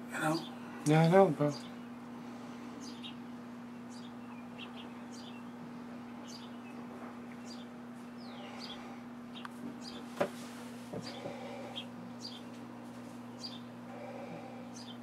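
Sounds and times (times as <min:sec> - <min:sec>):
steady low hum: 0:00.0 - 0:15.0
sparrows chirping: 0:00.1 - 0:10.1, 0:11.0 - 0:15.0.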